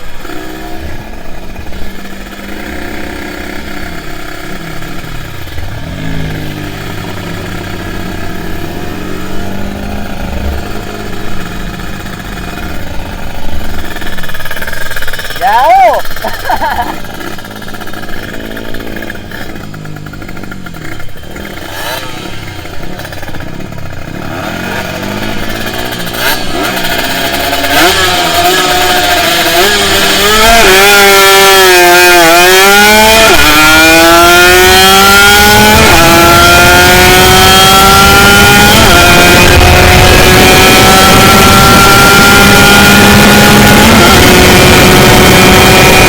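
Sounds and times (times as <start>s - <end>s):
two-stroke motorcycle accelerating: 0.0s - 46.0s.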